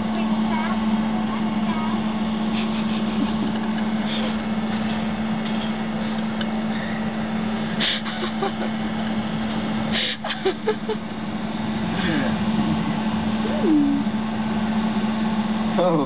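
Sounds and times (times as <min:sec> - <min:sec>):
truck engine hum: 0:00.0 - 0:16.0.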